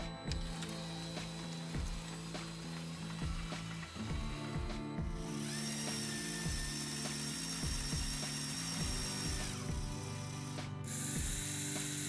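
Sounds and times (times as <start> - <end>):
background music with steady beat: 0.0 - 12.0
small electric motor whine: 0.0 - 12.0.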